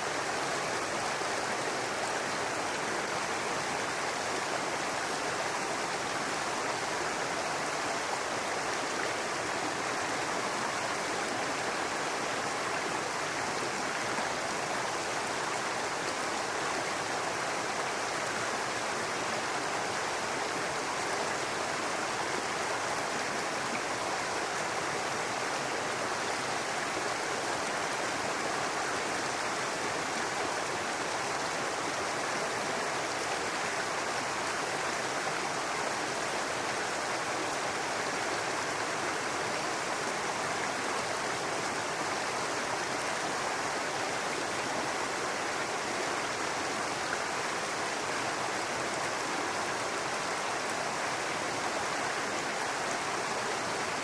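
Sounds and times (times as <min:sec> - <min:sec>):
brook babbling over rocks: 0:00.0 - 0:54.0.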